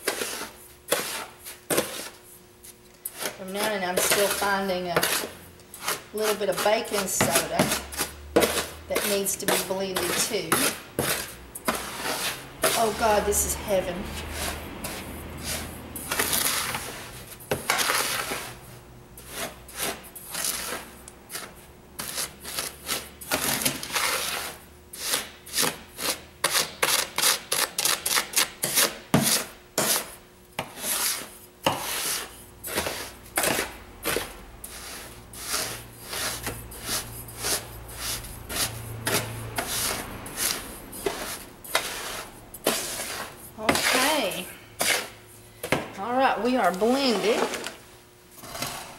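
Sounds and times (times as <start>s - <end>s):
spoon scraping through coarse salt: 0.0s - 45.2s, 46.6s - 47.8s, 48.4s - 48.9s.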